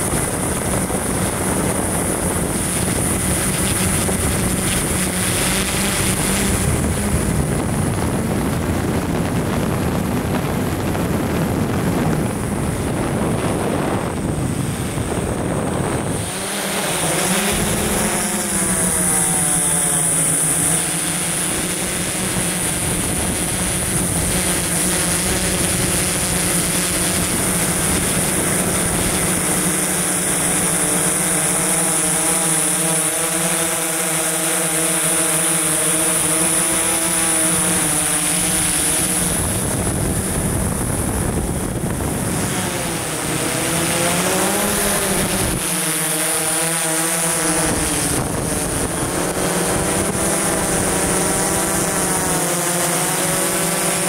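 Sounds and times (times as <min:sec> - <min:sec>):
drone propellers buzzing: 0:00.0 - 0:54.0
high motor whine: 0:00.0 - 0:54.0.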